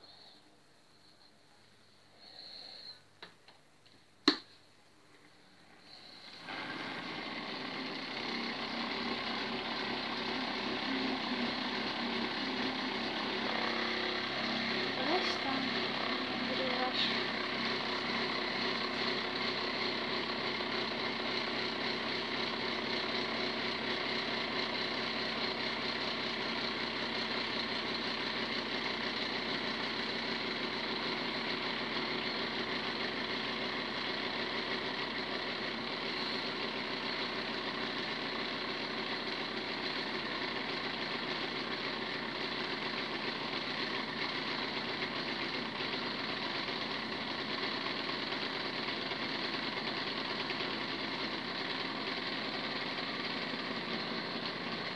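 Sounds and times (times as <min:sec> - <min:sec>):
cotton candy machine motor humming: 0:05.6 - 0:54.9.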